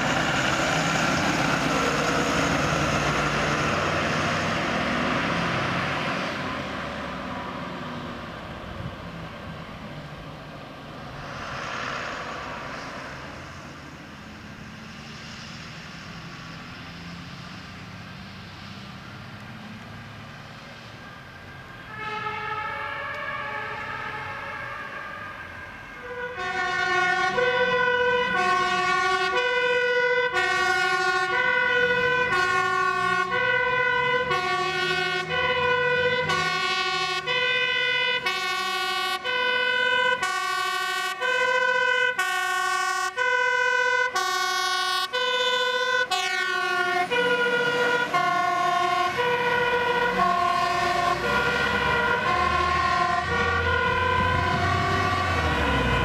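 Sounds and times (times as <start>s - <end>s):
fire engine two-tone siren: 0.0s - 56.0s.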